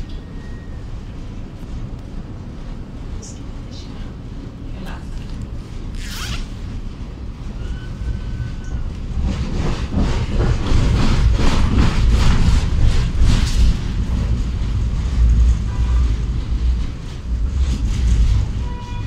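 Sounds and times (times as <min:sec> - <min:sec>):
tram rumbling: 0:00.0 - 0:19.0.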